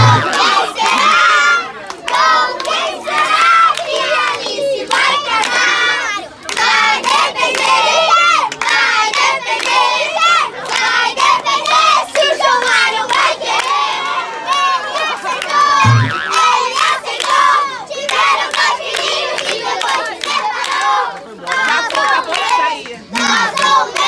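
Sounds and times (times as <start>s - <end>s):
crowd shouting and singing a chant: 0.0s - 21.1s
people clapping: 0.0s - 24.0s.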